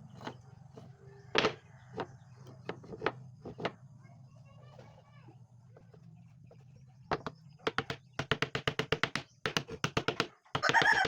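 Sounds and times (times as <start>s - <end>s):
wooden knocks: 0.0s - 3.8s, 5.8s - 11.0s.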